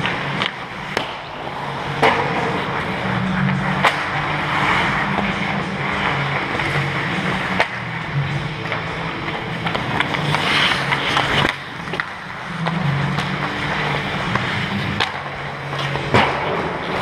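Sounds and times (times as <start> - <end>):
hockey sticks clicking on ice: 0.0 - 17.0
skate blades scraping ice: 0.0 - 17.0.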